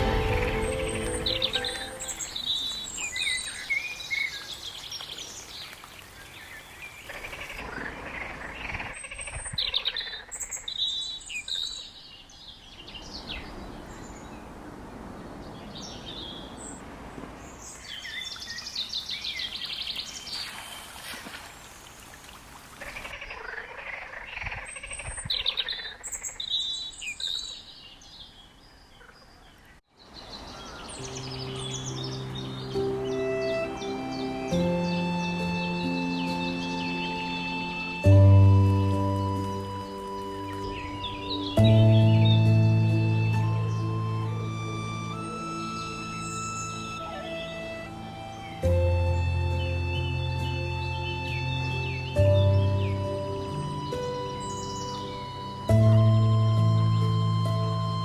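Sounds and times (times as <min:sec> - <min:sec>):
songbirds singing: 0:00.0 - 0:21.0, 0:21.6 - 0:58.0.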